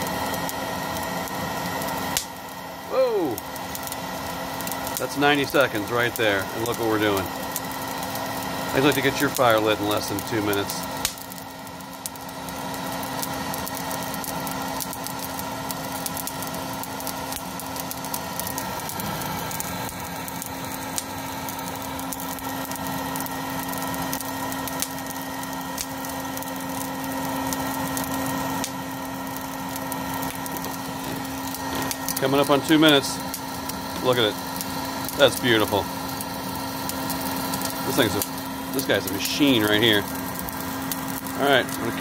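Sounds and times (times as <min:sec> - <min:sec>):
crackles and pops of burning coals: 0:00.0 - 0:42.0
motor and fan hum: 0:00.0 - 0:42.0.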